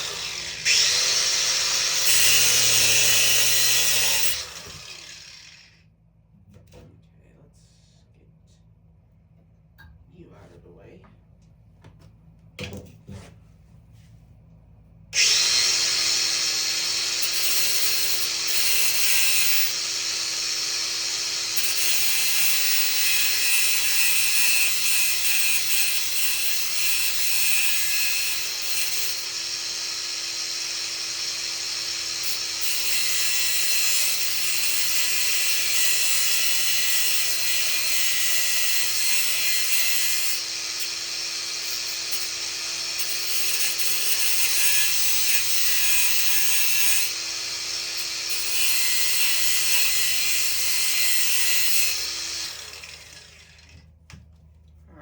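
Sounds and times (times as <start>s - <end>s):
power tool cutting metal: 0.0s - 5.7s, 15.2s - 53.8s.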